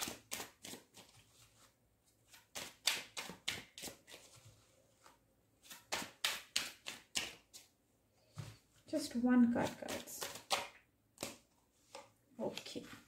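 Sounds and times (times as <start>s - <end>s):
cards shuffled with sharp slaps: 0.0s - 7.8s, 9.6s - 13.0s.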